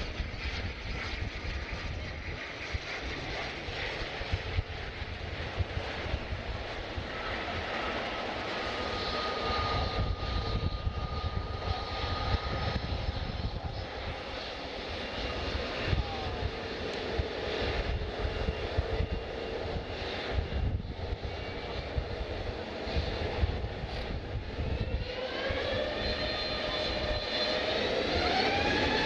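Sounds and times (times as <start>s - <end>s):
jet engines rumbling: 0.0s - 29.0s
thin engine whine: 0.0s - 29.0s.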